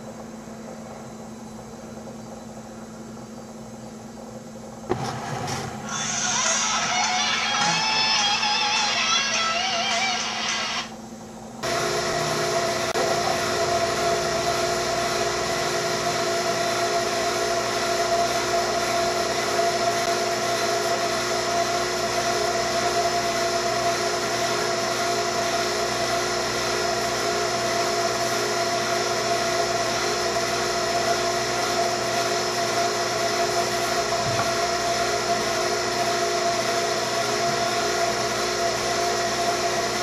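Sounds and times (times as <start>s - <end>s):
vacuum pump humming: 0.0s - 40.0s.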